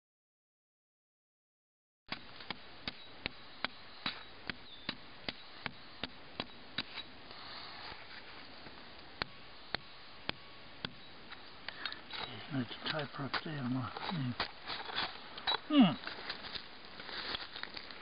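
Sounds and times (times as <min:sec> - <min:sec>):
faint steady hiss: 0:02.2 - 0:18.0.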